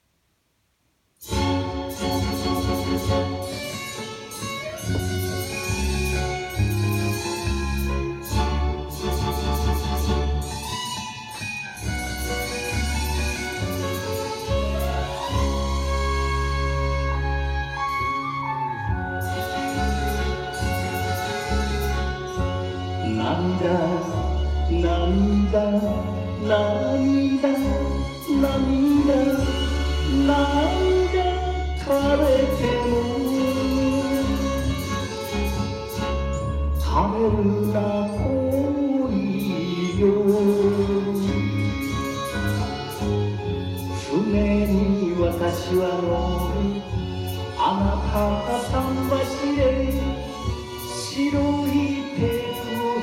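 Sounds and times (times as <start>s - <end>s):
steady bass line: 1.2s - 11.0s, 11.7s - 53.0s
guitar melody: 1.2s - 53.0s.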